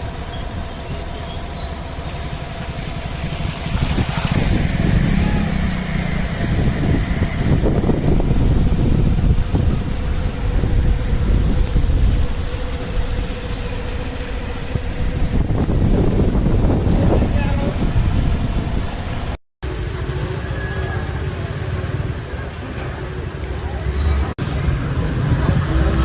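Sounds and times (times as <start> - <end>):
motorcycles and cars passing: 0.0 - 26.0.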